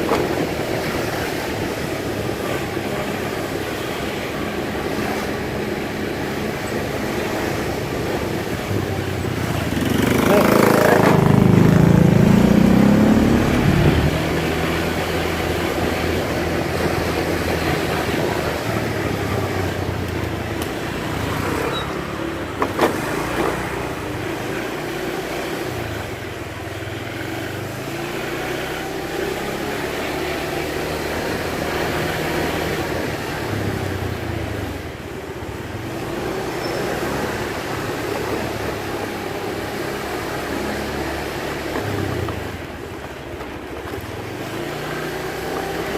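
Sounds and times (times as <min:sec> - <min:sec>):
road and wind noise: 0:00.0 - 0:45.9
vehicle engine: 0:00.0 - 0:45.9.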